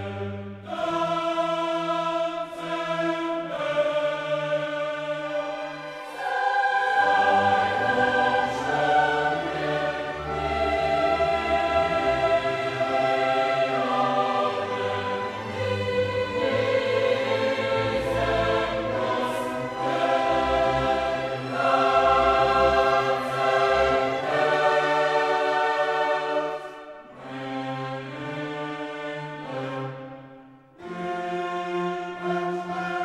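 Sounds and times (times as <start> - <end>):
choir singing with orchestra: 0.0 - 33.0.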